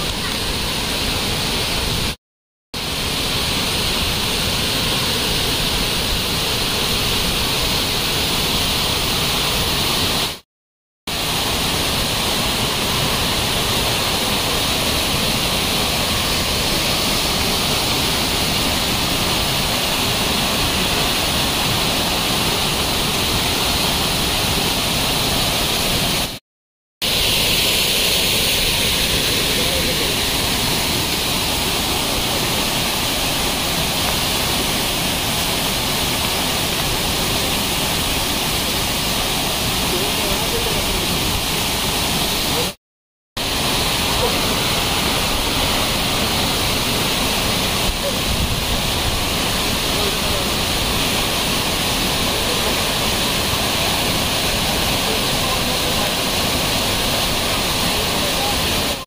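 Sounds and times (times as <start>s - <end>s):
waterfall and river rushing: 0.0s - 2.2s, 2.8s - 10.4s, 11.1s - 26.4s, 27.0s - 42.8s, 43.4s - 59.0s.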